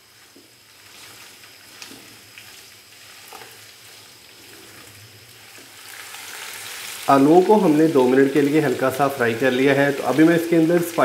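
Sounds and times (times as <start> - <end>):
potatoes sizzling in oil: 0.0 - 11.0.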